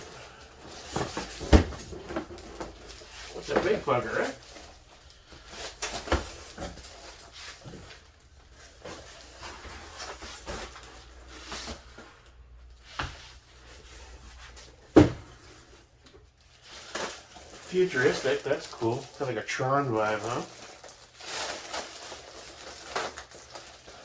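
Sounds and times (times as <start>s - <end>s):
packaging rustles: 0.0s - 12.8s, 15.4s - 24.0s.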